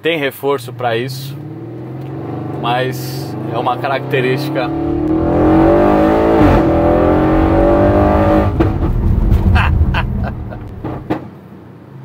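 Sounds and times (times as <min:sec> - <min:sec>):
car engine accelerating hard: 0:00.6 - 0:11.1.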